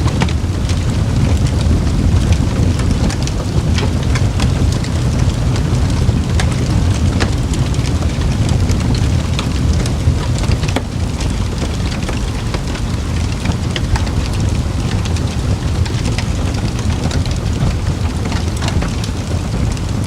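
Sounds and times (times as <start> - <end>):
burning wood crackling and popping: 0.0 - 20.0
campfire flames rumbling: 0.0 - 20.0.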